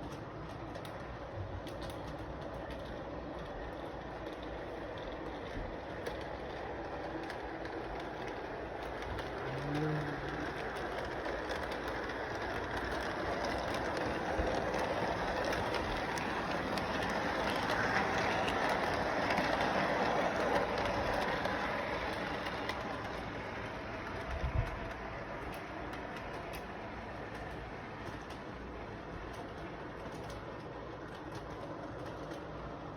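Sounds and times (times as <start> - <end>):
train rattling rumble: 0.0 - 32.9.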